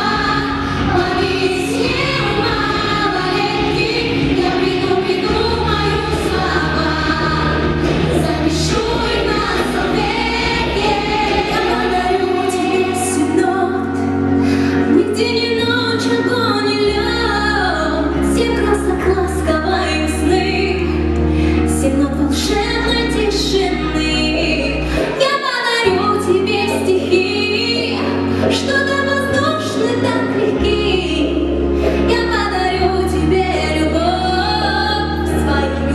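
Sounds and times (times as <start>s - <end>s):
bass line: 0.0s - 25.2s, 25.9s - 35.9s
people singing over backing track: 0.0s - 35.9s.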